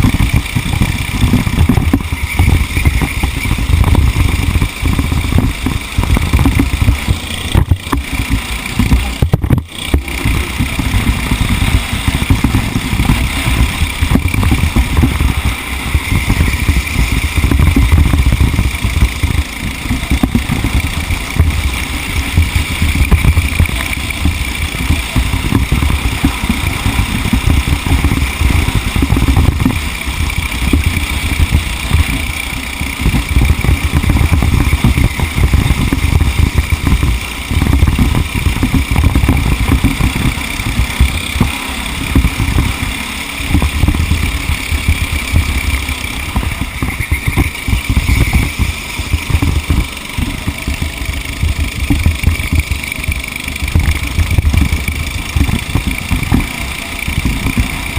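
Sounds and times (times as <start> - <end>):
vehicle engine rumbling: 0.0 - 57.9.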